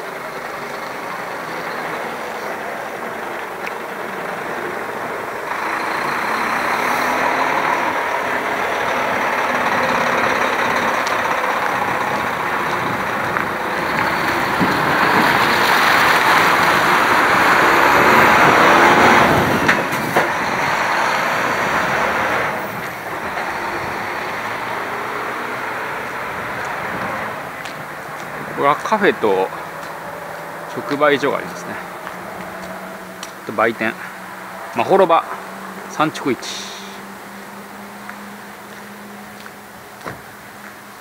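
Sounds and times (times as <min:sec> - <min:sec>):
truck diesel engine pulling away: 0:00.0 - 0:41.0.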